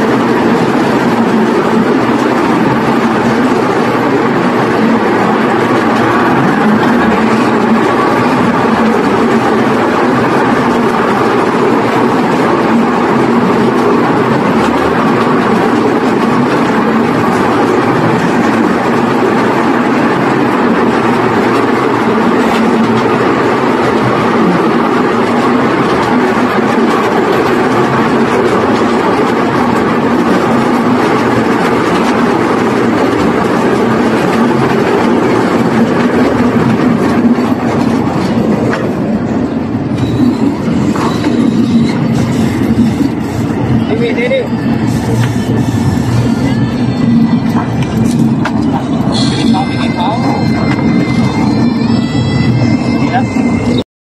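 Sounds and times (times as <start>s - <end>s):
miniature train rumbling on rails: 0.0s - 53.8s.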